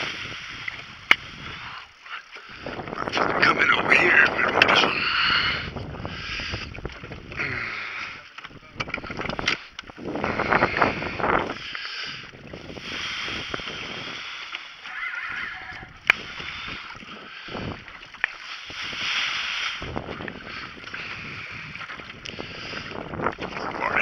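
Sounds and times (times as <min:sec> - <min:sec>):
water splashing against boat hull: 0:00.0 - 0:24.0.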